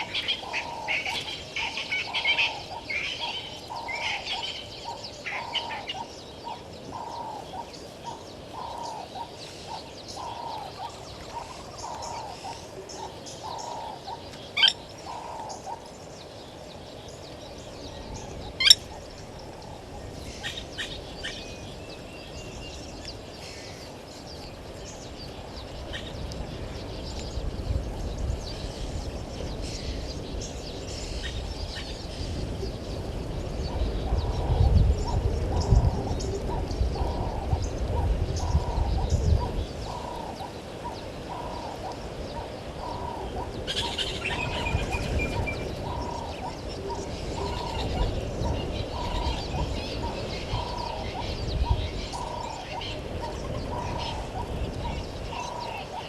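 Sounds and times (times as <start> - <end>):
birds chirping: 0.0 - 56.0
low repeated bird call: 0.0 - 56.0.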